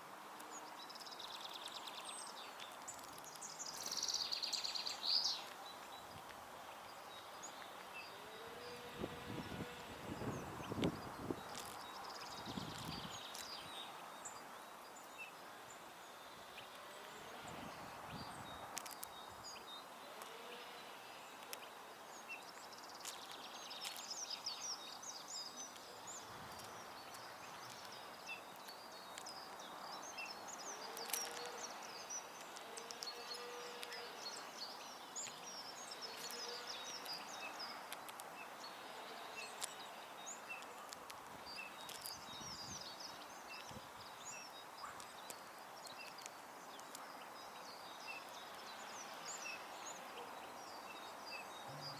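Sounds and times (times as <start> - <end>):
faint background hiss: 0.0 - 51.9
songbirds chirping and twittering: 0.0 - 51.9.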